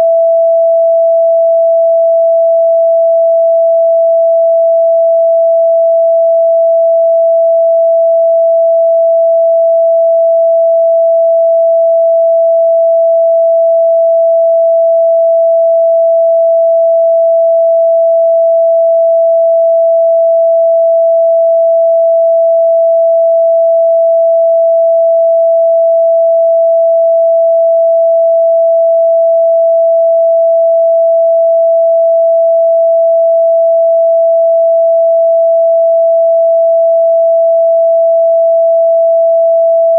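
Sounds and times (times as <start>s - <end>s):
electronic sine tone: 0.0s - 39.9s.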